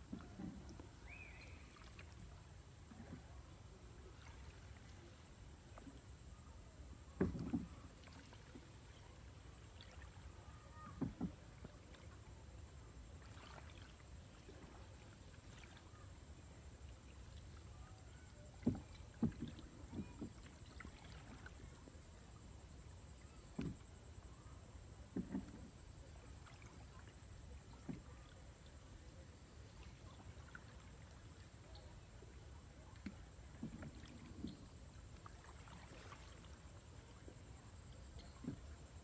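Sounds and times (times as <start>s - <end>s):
boat strokes knocking and splashing: 0.0s - 39.0s.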